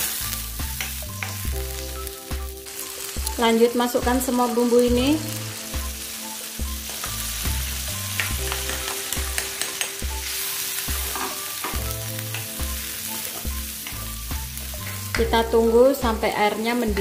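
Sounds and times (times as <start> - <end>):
paste sizzling in a wok: 0.0 - 17.0.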